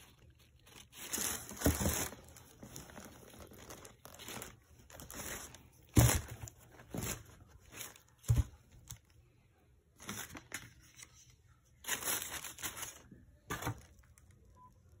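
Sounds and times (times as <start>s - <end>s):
tissue paper rustling and crinkling: 0.0s - 9.1s, 10.0s - 14.1s.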